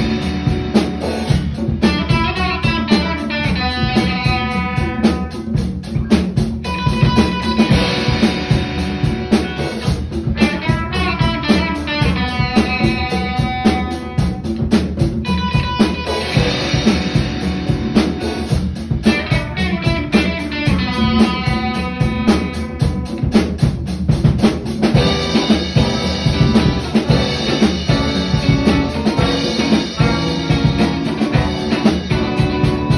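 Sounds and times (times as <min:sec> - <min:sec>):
guitar chords and notes: 0:00.0 - 0:23.7, 0:24.8 - 0:32.9
drum kit beat: 0:00.0 - 0:32.9.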